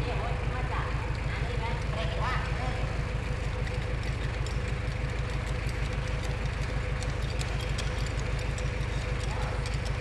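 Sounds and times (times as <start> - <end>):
heavy engine idling: 0.0 - 10.0.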